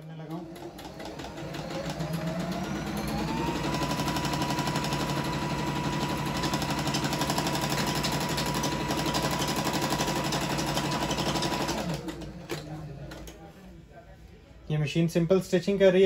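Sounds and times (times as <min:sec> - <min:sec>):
sewing machine motor whine: 0:00.2 - 0:13.2.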